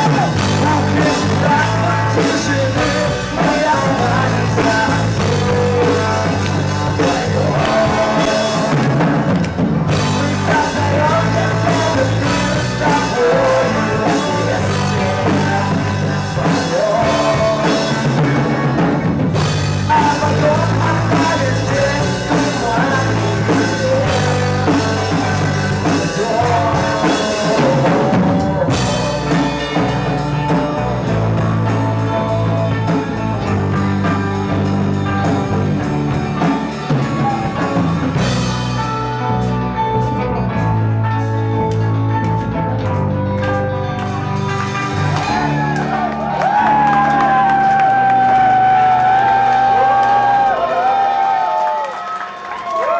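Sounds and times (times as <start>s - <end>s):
person singing: 0.0s - 50.8s
rock band playing live: 0.0s - 52.9s.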